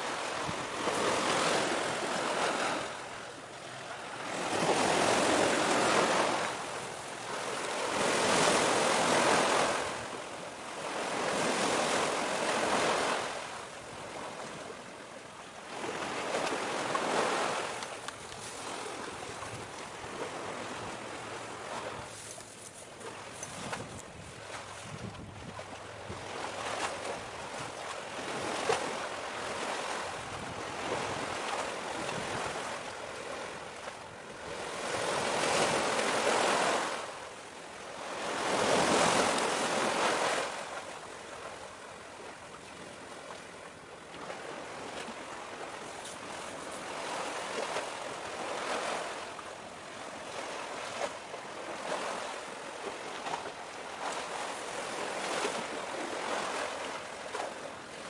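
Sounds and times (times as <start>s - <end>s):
waves washing against shore: 0.0s - 58.0s.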